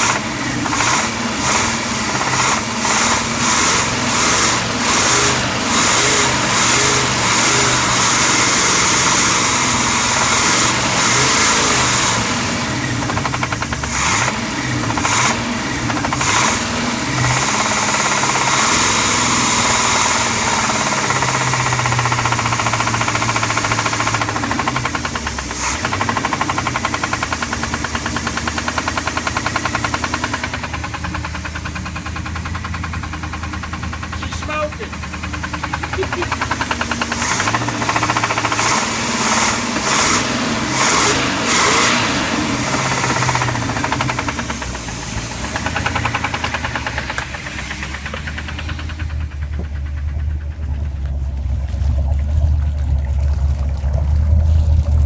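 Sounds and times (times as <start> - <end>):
boat engine knocking: 0.0 - 55.0.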